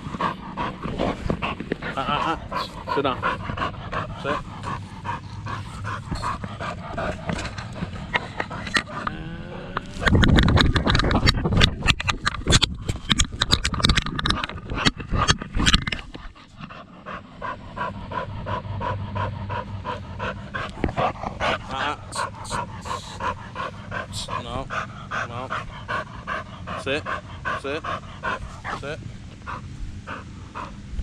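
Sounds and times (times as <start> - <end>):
dog panting: 0.0 - 9.2, 9.9 - 31.0
rumbling: 0.0 - 31.0.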